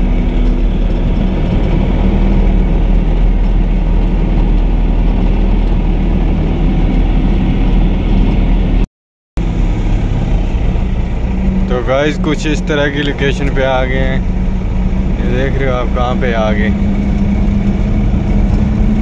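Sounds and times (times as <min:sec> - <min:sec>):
road noise: 0:00.0 - 0:19.0
truck engine running: 0:00.0 - 0:19.0.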